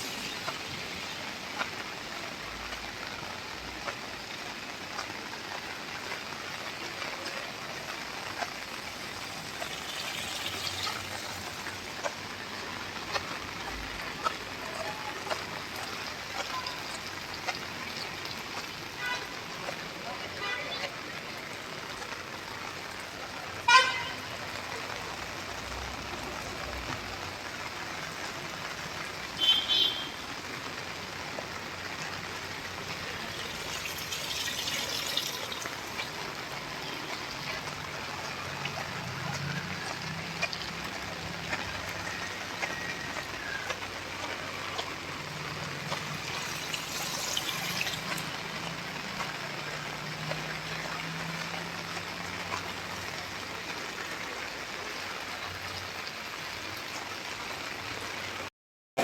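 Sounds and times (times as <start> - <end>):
rain falling and dripping: 0.0 - 59.0.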